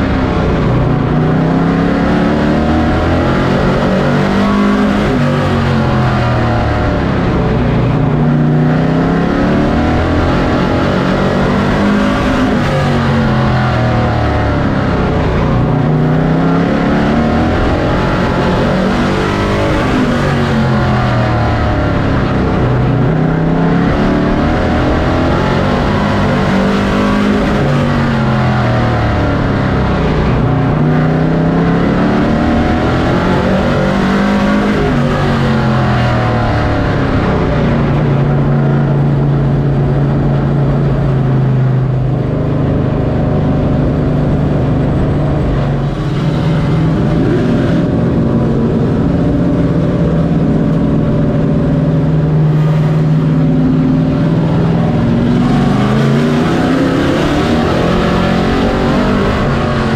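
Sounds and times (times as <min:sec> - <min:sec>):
race truck engine revving: 0:00.0 - 0:59.9.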